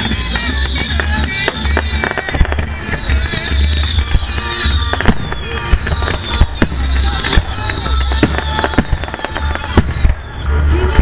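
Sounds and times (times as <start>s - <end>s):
firework shells bursting: 0.0s - 10.4s
loud music: 0.0s - 11.0s.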